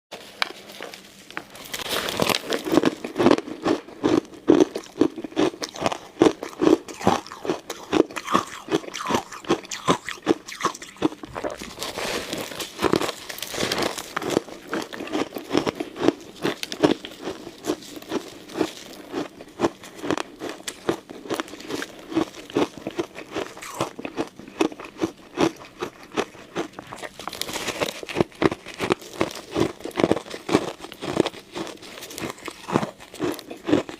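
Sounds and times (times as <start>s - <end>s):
ice cubes crunched between teeth: 1.6s - 33.9s.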